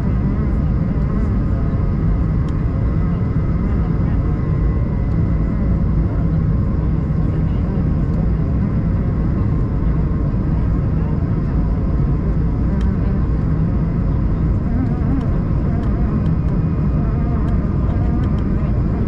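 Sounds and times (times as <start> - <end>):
airliner cabin engine and airflow rush: 0.0 - 19.0.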